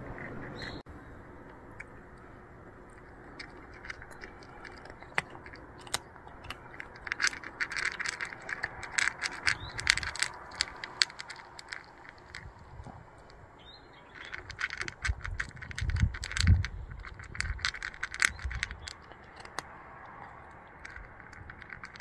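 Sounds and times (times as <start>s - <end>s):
cat crunching dry kibble: 1.8s - 22.0s.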